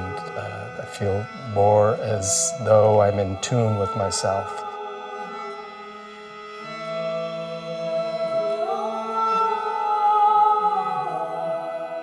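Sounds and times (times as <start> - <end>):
steady drone tones: 0.0 - 9.9
person singing long notes: 0.0 - 12.0.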